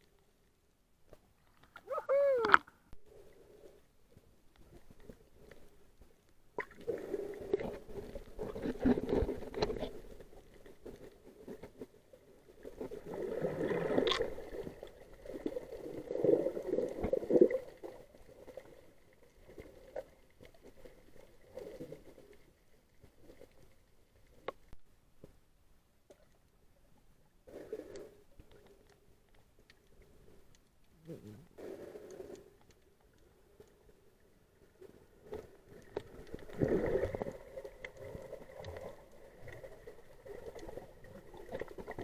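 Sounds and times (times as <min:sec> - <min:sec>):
underwater sloshing and gurgling: 0:02.5 - 0:42.0.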